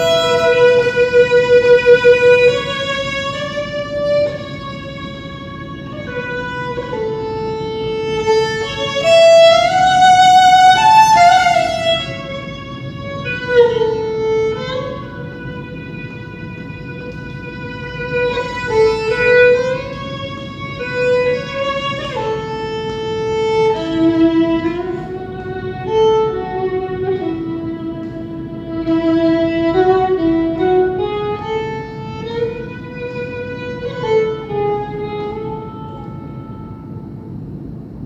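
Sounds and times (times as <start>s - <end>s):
solo fiddle melody: 0.0s - 37.1s.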